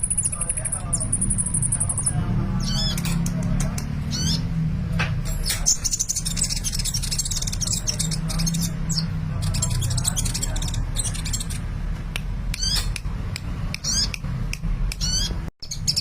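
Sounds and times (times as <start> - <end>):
songbird chirping and trilling: 0.0 - 11.8, 12.5 - 13.0, 13.7 - 16.0.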